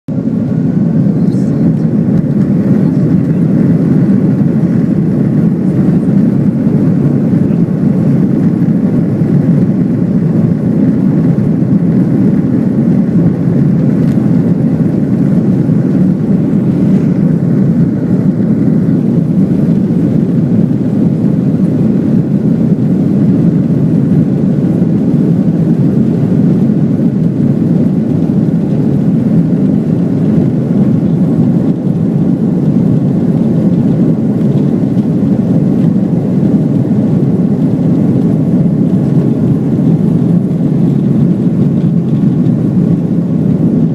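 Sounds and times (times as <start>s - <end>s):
jet engines roaring: 0.1s - 43.9s.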